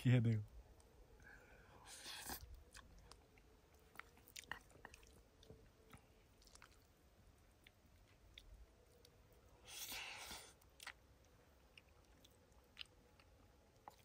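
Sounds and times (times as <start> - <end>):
person chewing noodles: 1.2 - 14.0.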